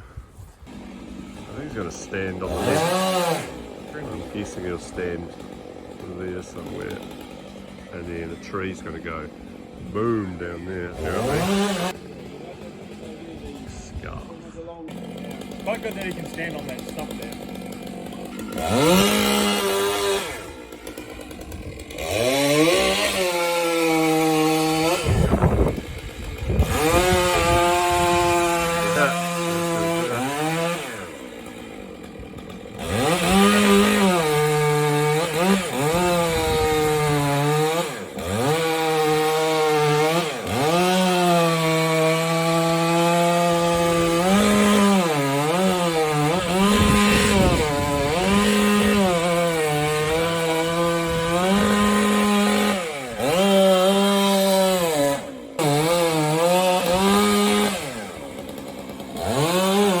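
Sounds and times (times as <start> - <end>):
chainsaw cutting a trunk: 0.6 - 60.0.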